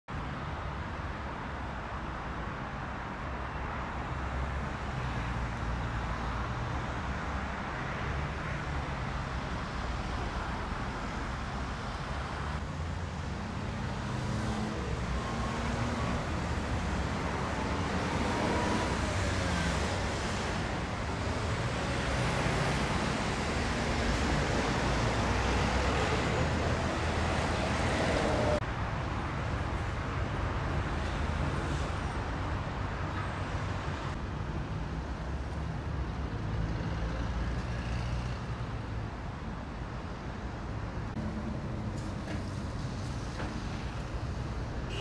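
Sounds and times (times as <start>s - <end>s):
road traffic rumble: 0.1s - 45.0s.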